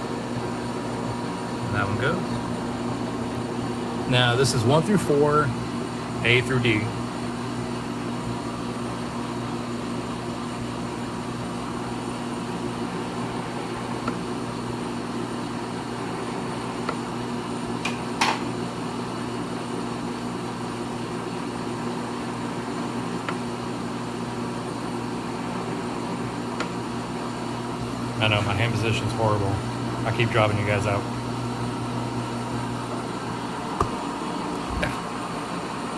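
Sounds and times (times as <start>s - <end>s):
lathe motor electric hum: 0.0s - 35.9s.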